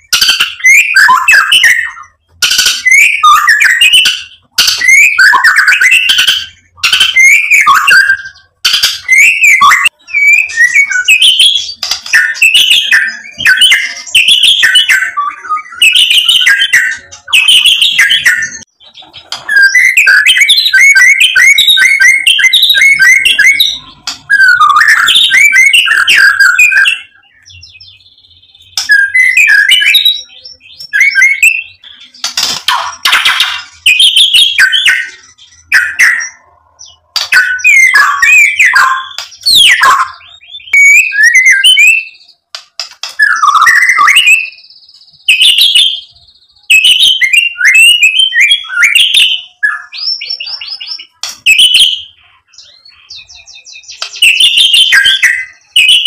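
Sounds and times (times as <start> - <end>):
songbird whistling and chattering: 0.0 - 56.0.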